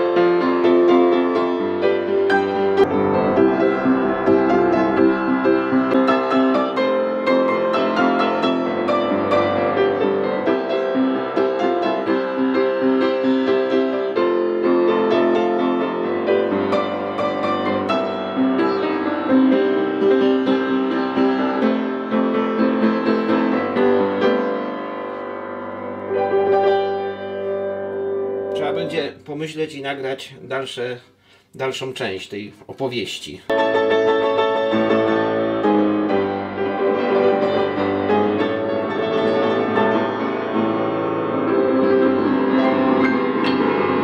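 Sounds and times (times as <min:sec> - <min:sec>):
upright piano playing: 0:00.0 - 0:30.8, 0:33.5 - 0:44.0.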